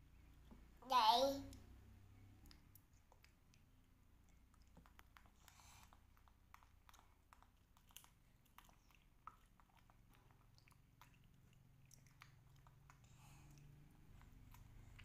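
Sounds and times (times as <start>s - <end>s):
candy being chewed: 2.3s - 15.0s.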